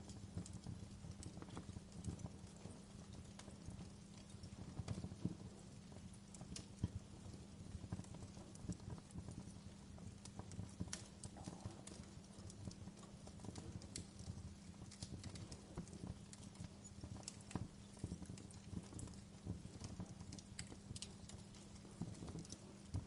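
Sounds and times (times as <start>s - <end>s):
logs crackling and popping: 0.0s - 23.0s
low fire rumble: 0.0s - 23.0s.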